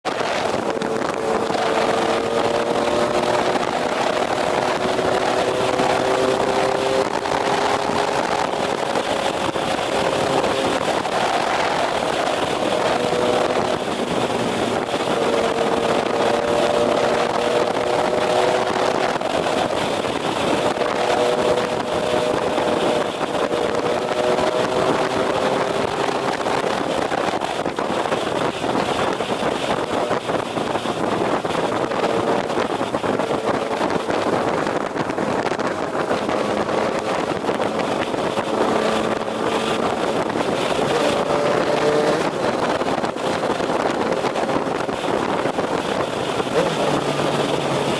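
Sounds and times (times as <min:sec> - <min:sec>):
motorcycle engine drone: 0:00.0 - 0:47.9
wind rush: 0:00.0 - 0:47.9.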